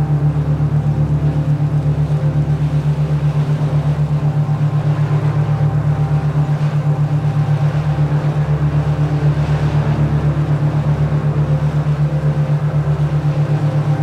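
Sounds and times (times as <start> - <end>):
low pulsing drone: 0.0 - 14.0.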